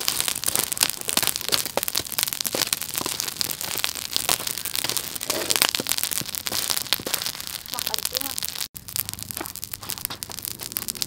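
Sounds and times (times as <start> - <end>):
charcoal crackling and popping: 0.0 - 11.0.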